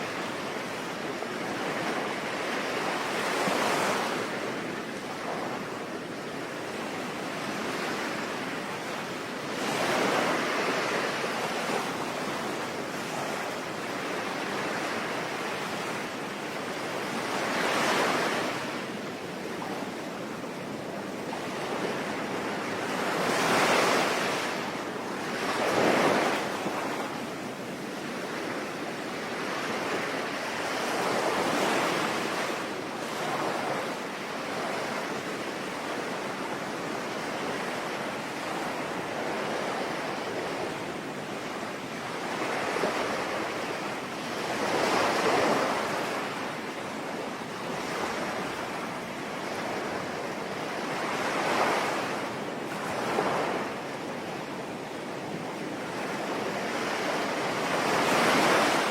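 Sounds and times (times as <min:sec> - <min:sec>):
sea waves breaking: 0:00.0 - 0:58.9.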